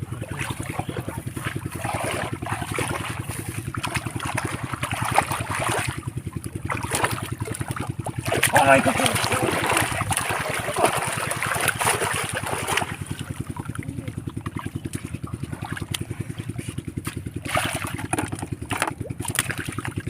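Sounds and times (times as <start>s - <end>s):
small engine running: 0.0s - 20.0s
water splashing: 0.0s - 20.0s.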